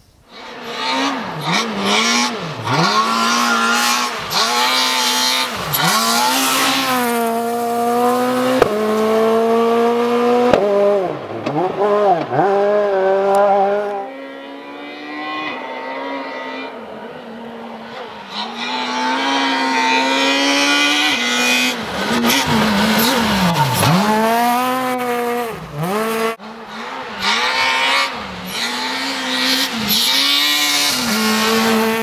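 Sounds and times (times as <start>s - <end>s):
rally car engine at high revs: 0.3s - 32.0s.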